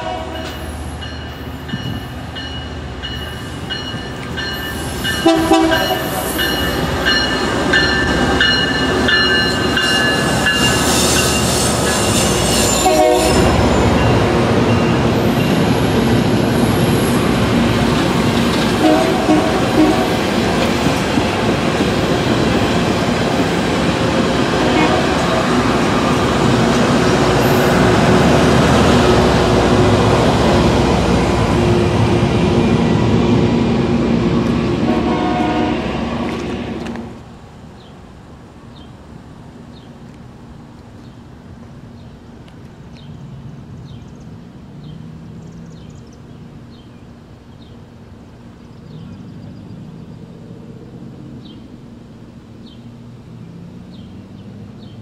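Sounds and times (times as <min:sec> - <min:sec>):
rail grinder train rumbling: 0:00.0 - 0:55.0.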